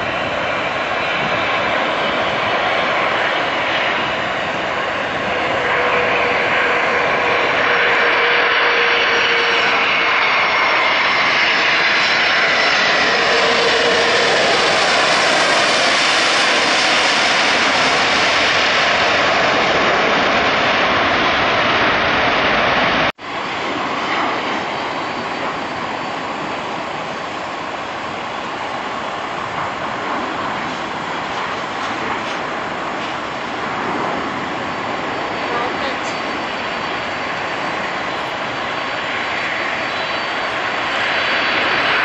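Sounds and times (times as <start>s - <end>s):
airliner jet engines on approach: 0.0s - 42.0s
loud jet engine passing close: 0.0s - 42.0s.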